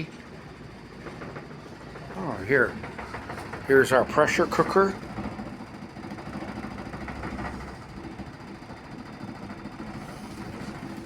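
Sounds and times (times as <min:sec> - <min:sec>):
construction machinery rumble: 0:00.0 - 0:11.0.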